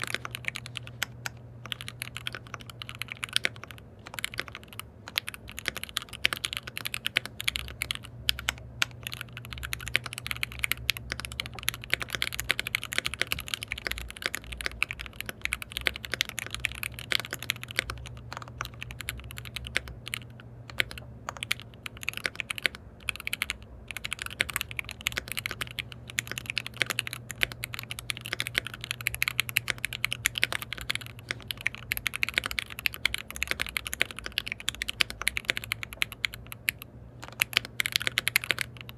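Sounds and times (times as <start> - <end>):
fast typing on mechanical keyboard: 0.0 - 38.9
steady low hum: 0.0 - 38.9.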